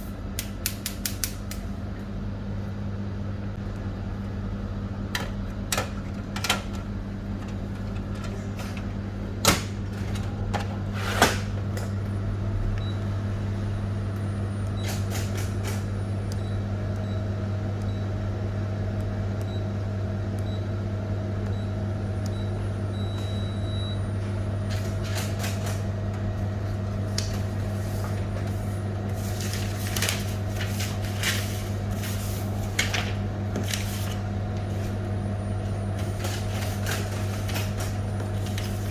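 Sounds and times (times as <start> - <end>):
photocopier humming: 1.4 - 38.9.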